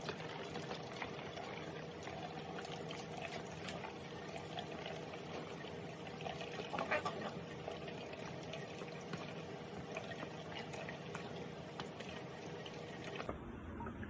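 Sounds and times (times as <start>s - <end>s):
juice trickling through sieve: 0.0s - 13.3s.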